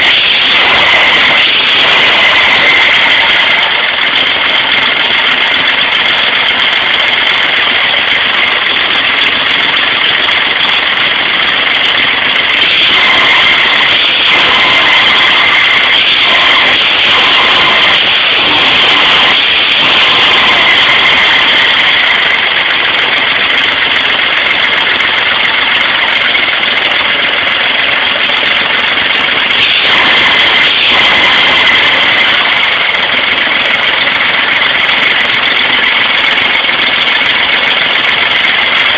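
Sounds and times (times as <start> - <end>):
engine running loudly: 0.0 - 38.9.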